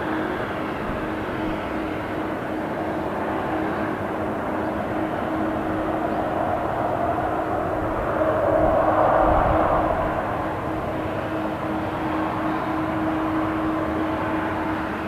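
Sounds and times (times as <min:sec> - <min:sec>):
distant jet engines: 0:00.0 - 0:15.0.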